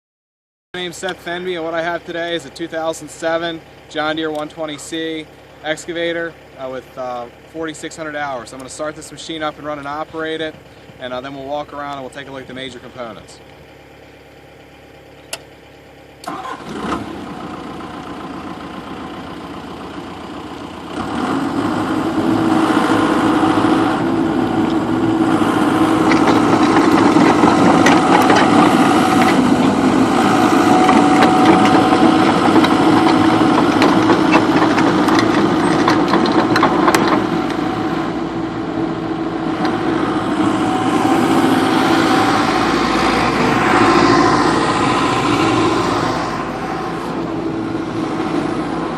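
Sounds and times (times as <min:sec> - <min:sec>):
diesel engine cranking and idling: 0:00.8 - 0:48.9.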